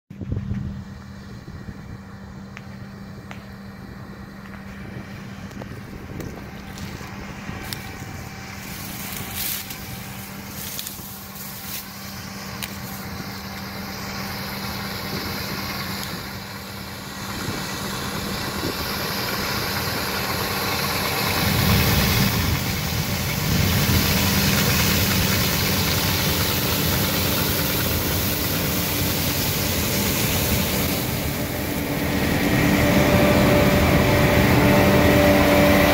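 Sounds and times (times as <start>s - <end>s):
combine harvester humming: 0.1s - 35.9s.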